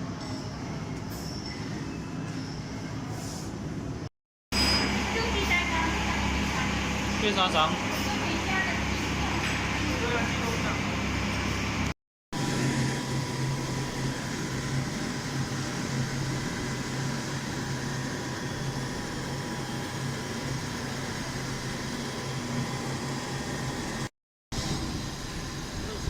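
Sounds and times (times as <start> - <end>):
factory machinery hum: 0.0 - 26.0.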